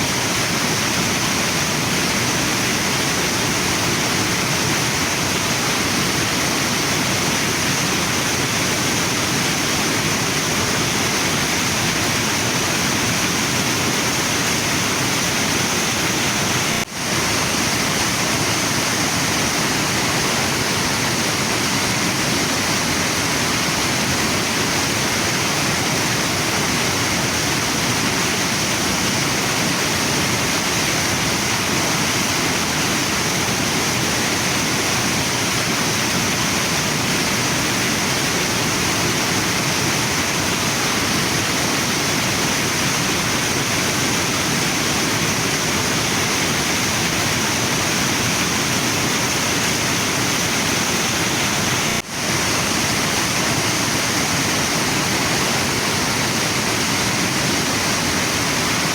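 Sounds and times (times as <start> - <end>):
waterfall and river rushing: 0.0 - 58.9.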